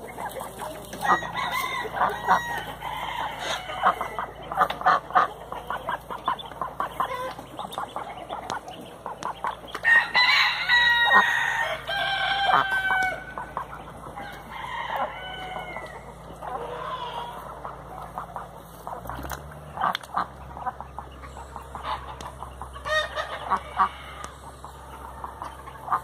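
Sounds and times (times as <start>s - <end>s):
duck calling: 0.0s - 14.2s, 16.4s - 26.0s
ducklings peeping: 0.0s - 26.0s.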